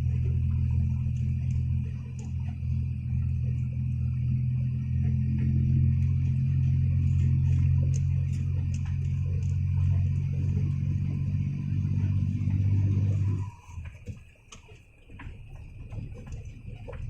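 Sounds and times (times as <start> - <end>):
truck engine drone from cab: 0.0 - 17.0.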